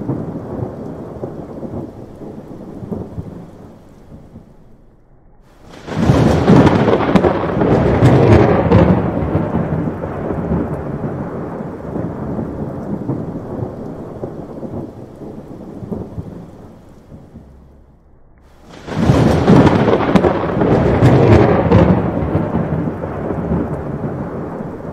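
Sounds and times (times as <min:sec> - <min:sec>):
thunder crack and rumble: 0:00.0 - 0:24.9.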